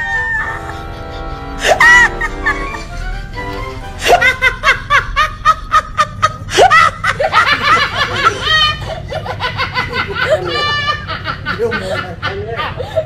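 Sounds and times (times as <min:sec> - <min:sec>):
child giggling: 0:00.0 - 0:03.1, 0:04.0 - 0:13.0.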